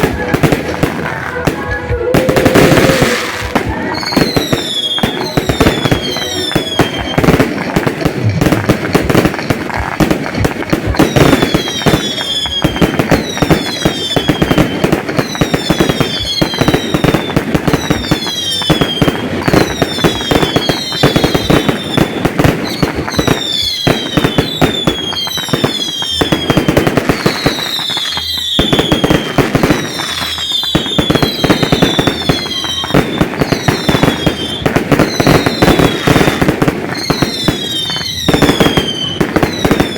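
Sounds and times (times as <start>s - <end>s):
fireworks bangs and crackles: 0.0s - 39.9s
falling firework whistles: 1.9s - 7.4s, 11.0s - 39.9s.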